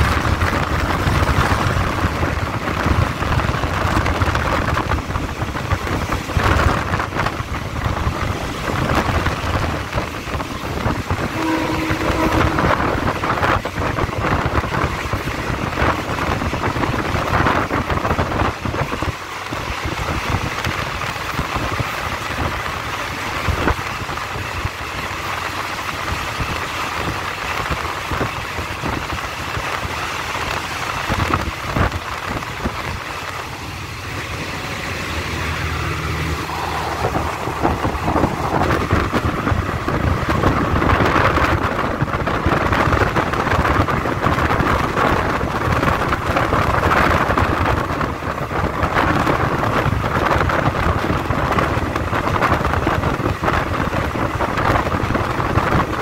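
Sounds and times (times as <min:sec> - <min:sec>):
train wheels clattering on rails: 0:00.0 - 0:56.0
wind buffeting microphone: 0:00.0 - 0:56.0.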